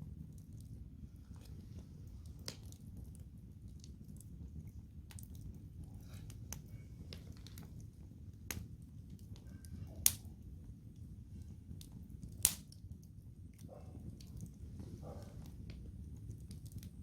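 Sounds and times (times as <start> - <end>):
campfire crackling: 0.0 - 17.0
low steady rumble: 0.0 - 17.0.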